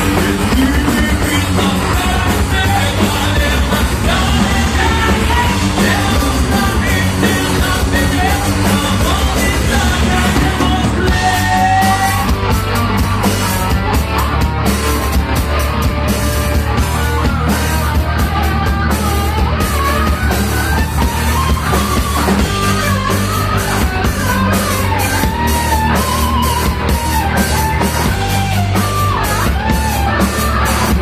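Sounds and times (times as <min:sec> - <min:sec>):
bass guitar: 0:00.0 - 0:31.0
distorted electric guitars: 0:00.0 - 0:31.0
drum kit with cymbals: 0:00.0 - 0:31.0
melodic guitar lead line: 0:00.0 - 0:31.0.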